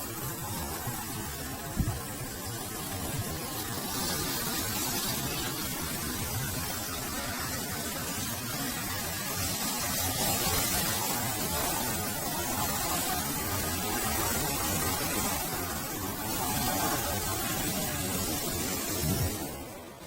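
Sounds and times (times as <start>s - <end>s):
steady hissing noise: 0.0s - 20.0s.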